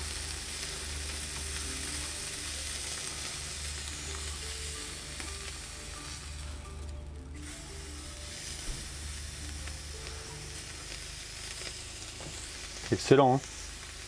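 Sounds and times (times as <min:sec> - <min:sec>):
beef sizzling on charcoal: 0:00.0 - 0:14.0.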